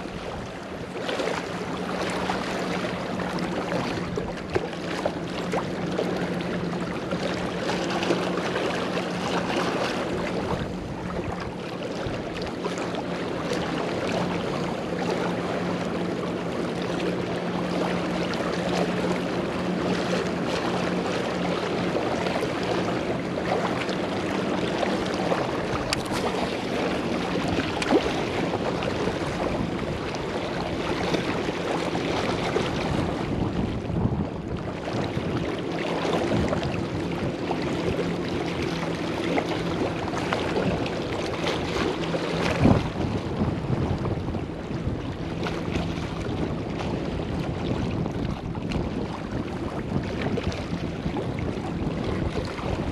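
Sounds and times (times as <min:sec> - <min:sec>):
rushing water: 0:00.0 - 0:52.9
wind buffeting microphone: 0:00.0 - 0:52.9.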